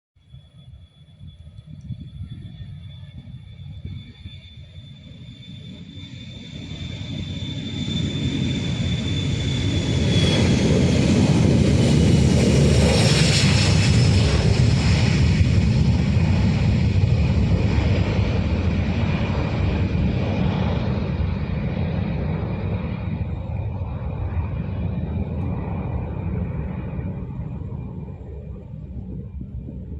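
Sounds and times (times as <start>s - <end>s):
jet engines rumble and whine: 0.2s - 29.9s.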